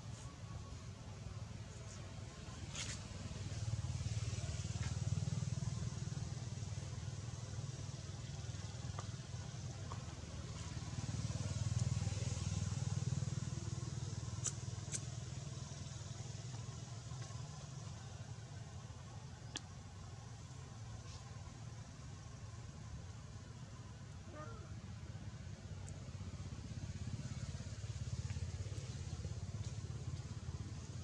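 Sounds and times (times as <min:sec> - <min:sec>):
distant traffic rumble: 0:01.0 - 0:31.0.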